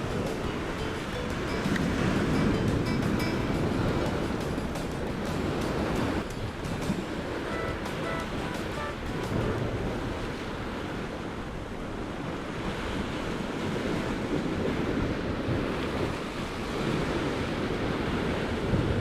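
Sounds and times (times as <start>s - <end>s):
sea surf washing against rocks: 0.0s - 19.0s
wind buffeting microphone: 0.0s - 19.0s.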